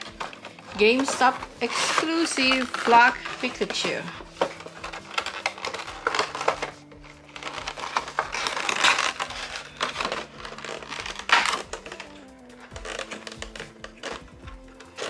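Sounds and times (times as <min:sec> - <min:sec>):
cardboard and plastic crinkling: 0:00.0 - 0:15.0
small clicks: 0:00.0 - 0:15.0.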